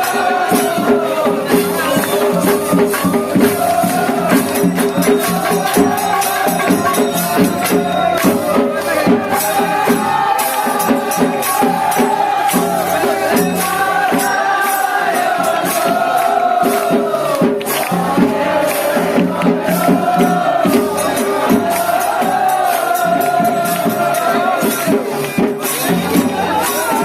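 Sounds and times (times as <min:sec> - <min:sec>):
rhythmic percussion: 0:00.0 - 0:27.0
voices singing devotional melody: 0:00.0 - 0:27.0.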